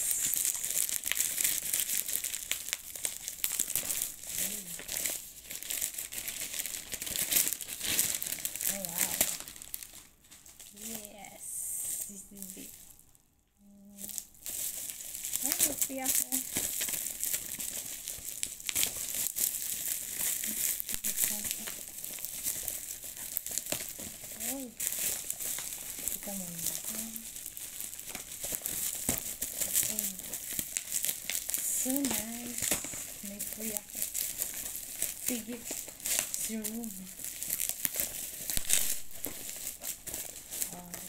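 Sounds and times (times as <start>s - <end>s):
plastic bag crinkling: 0.0s - 13.2s, 13.8s - 41.0s.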